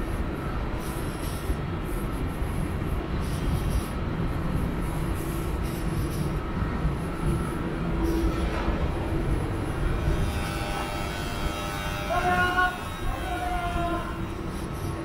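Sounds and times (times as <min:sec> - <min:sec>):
city street rumble: 0:00.0 - 0:15.0.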